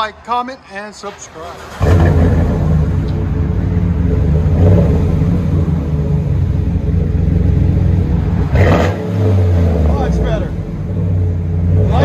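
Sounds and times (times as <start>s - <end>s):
vehicle engine idling: 1.1s - 12.0s.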